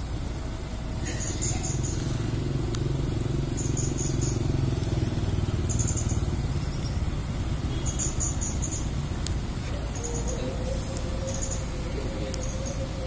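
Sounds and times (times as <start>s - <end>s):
bus diesel engine running: 0.0s - 13.0s
motorcycle passing: 0.0s - 13.0s.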